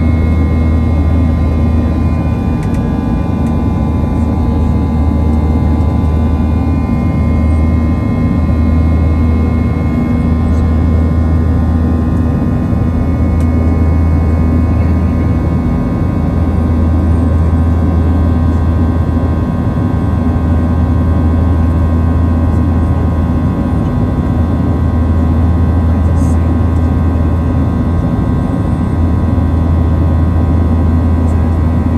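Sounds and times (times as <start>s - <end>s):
jet engines droning in cabin: 0.0s - 31.9s.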